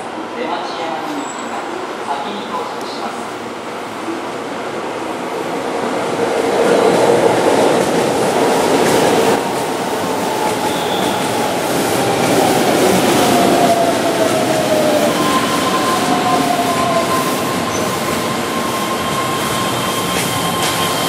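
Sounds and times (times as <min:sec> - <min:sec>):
train wheels rolling on rail: 0:04.0 - 0:21.0.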